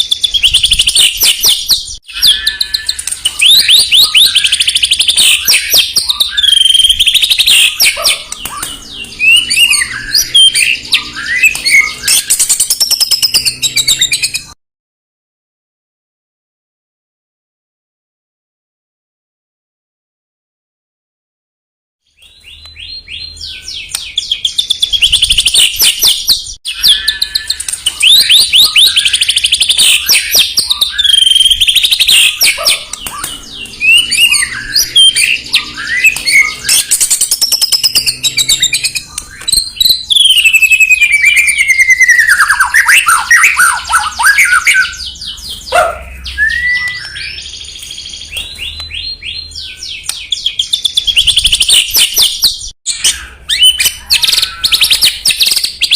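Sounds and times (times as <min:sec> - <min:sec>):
bird singing trills and whistles: 0:00.0 - 0:14.6, 0:22.1 - 0:55.9.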